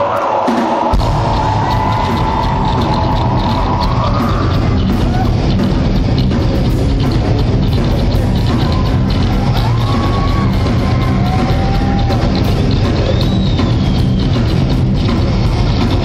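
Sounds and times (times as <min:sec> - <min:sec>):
live metal band playing: 0:00.0 - 0:16.0.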